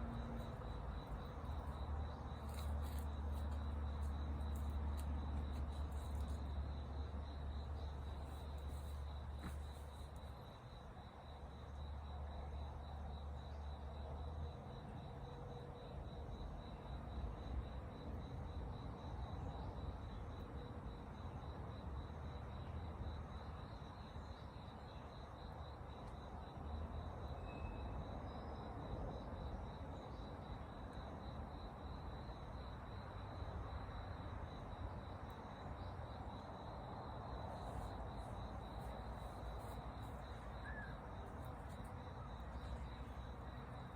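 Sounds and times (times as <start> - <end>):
cricket trilling: 0.0 - 43.9.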